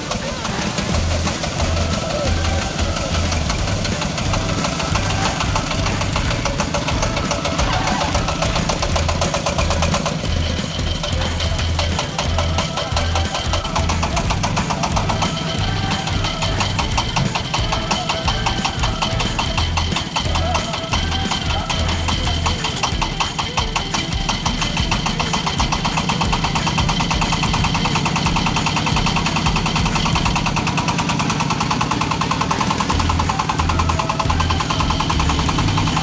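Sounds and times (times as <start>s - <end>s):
diesel engine clattering: 0.0s - 36.0s.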